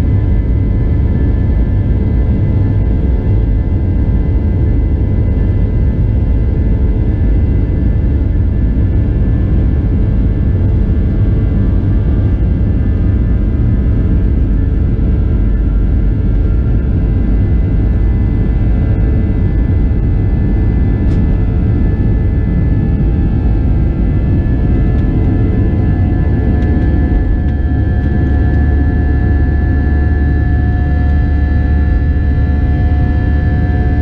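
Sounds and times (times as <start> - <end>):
jet engine cabin rumble: 0.0 - 34.0
jet engine whine: 0.0 - 34.0.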